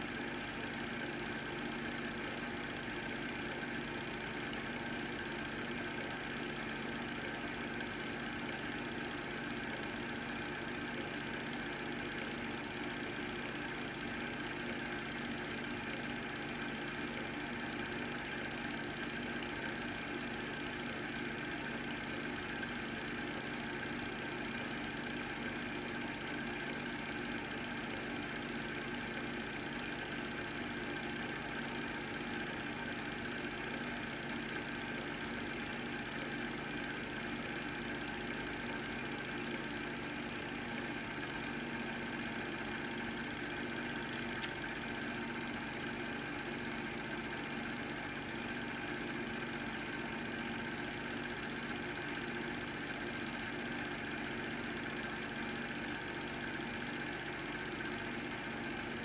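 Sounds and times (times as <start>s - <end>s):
movie projector humming: 0.0s - 59.0s.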